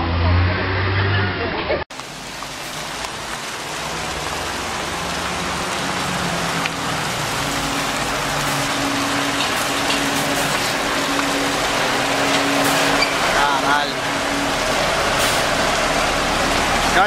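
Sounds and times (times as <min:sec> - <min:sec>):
heavy truck engine drone: 0:00.0 - 0:17.0.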